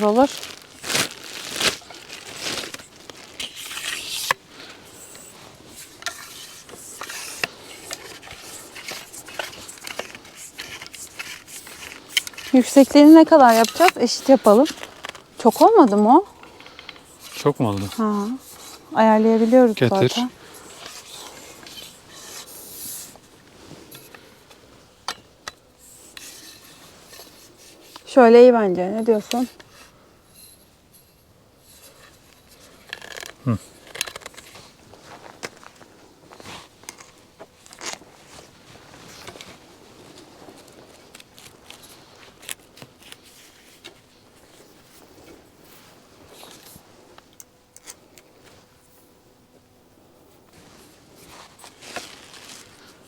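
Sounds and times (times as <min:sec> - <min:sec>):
camping gear rustling: 0:00.0 - 0:53.0.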